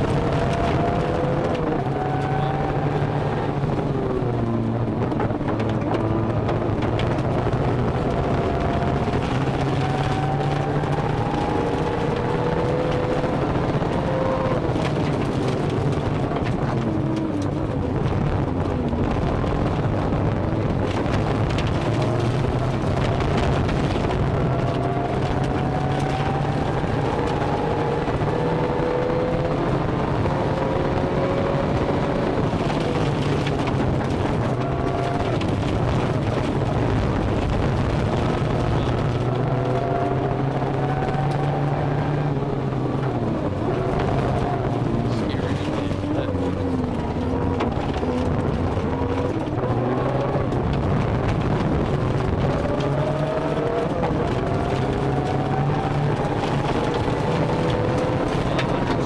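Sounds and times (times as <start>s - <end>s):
car engine revving: 0.0s - 59.0s
road noise on gravel: 0.0s - 59.0s.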